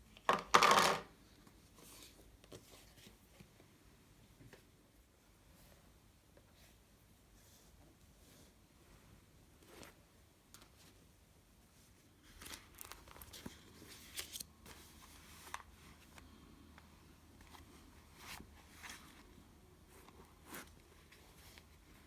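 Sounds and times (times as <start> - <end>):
soft handling rustles: 1.4 - 22.0.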